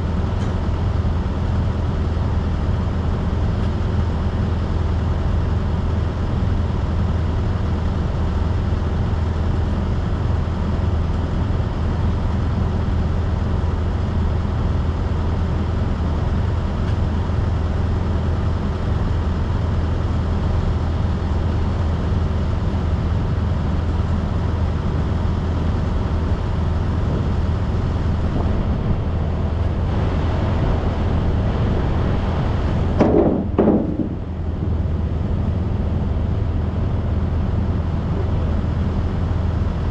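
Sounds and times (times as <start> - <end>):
truck engine drone and road noise: 0.0 - 39.9.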